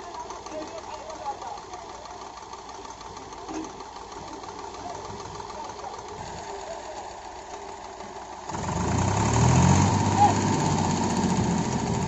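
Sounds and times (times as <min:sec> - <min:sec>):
diesel engine clattering: 0:00.0 - 0:12.0.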